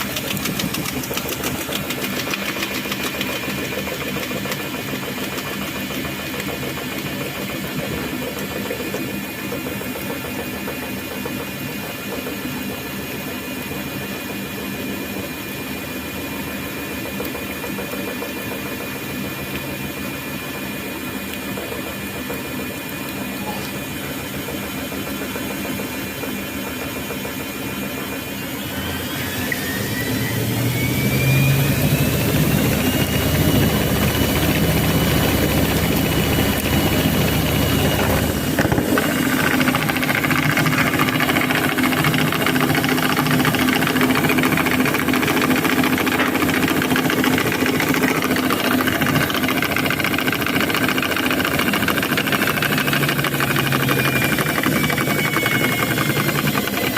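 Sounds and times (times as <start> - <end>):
washing machine hum and whine: 0.0 - 56.9.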